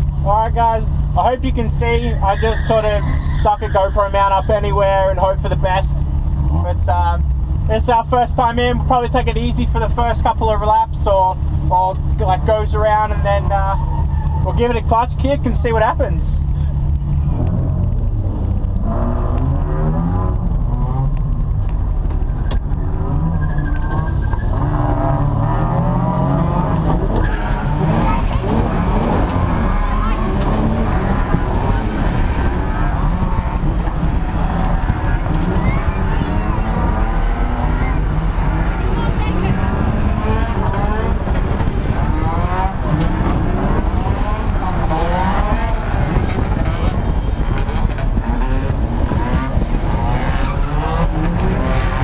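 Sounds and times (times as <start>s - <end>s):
car engine revving: 0.0s - 52.0s.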